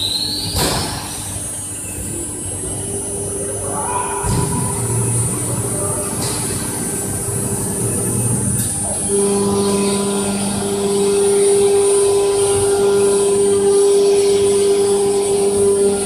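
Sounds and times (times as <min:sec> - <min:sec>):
cnc router spindle whine: 0:00.0 - 0:16.0.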